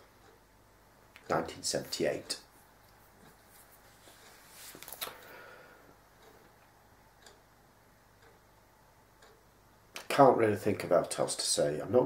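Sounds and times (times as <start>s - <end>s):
clock ticking faintly: 0.0s - 4.4s, 5.3s - 12.0s.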